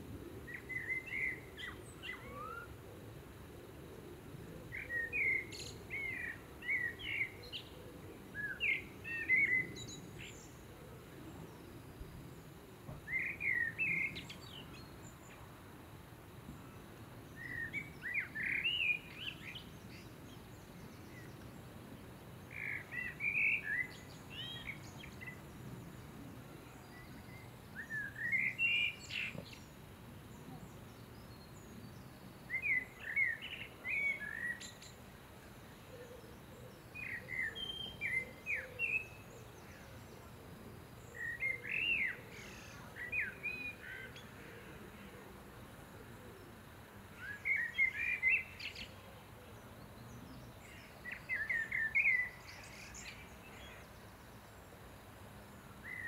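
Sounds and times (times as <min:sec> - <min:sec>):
faint low background noise: 0:00.0 - 0:56.0
songbird chirping: 0:00.2 - 0:03.3, 0:04.3 - 0:56.0.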